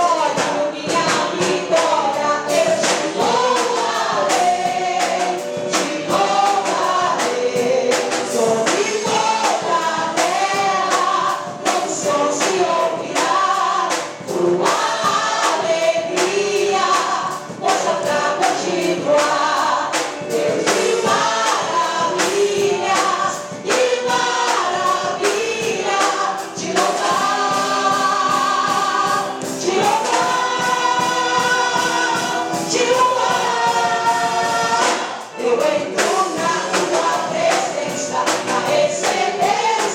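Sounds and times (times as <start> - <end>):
band with steady drum beat: 0.0 - 39.9
gospel choir singing: 0.0 - 39.9.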